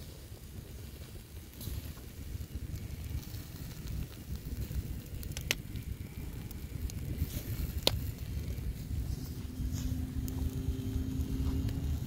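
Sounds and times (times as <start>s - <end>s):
fire popping: 0.0s - 12.0s
low rumble: 0.0s - 12.0s
wood fire crackling: 0.0s - 12.0s.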